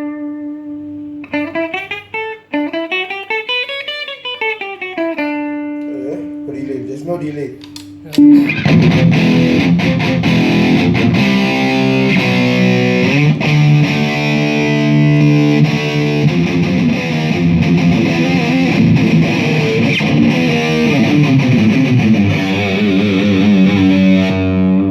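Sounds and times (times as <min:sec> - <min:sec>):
distorted electric guitar: 0:00.0 - 0:24.9.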